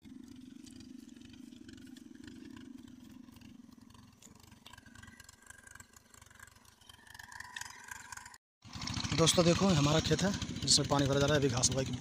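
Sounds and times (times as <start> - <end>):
distant water pump engine hum: 0.0 - 12.0.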